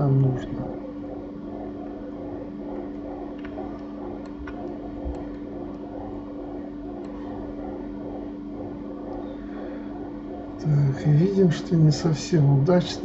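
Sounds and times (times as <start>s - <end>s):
computer humming: 0.0s - 13.0s.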